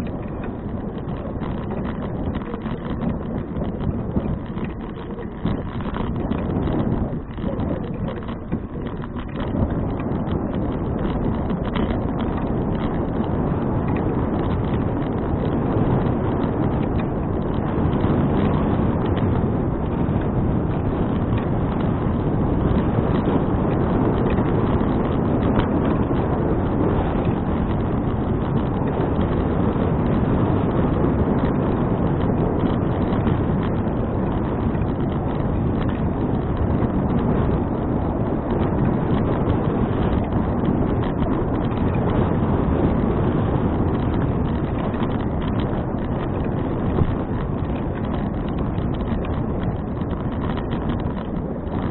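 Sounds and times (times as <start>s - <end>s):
faint ticks: 0.0s - 51.9s
wind buffeting microphone: 0.0s - 51.9s.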